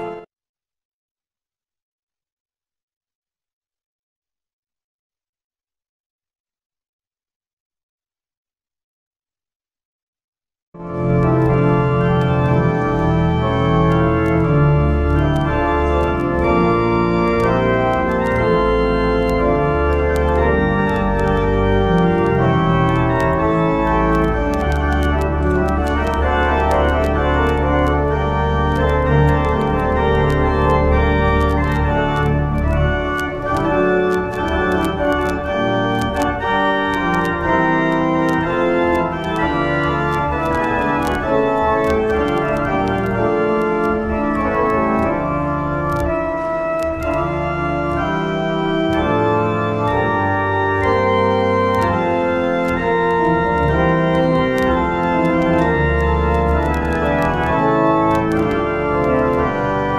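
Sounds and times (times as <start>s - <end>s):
church organ chords: 0.0s - 0.3s, 10.8s - 59.9s
deep organ bass notes: 10.8s - 59.9s.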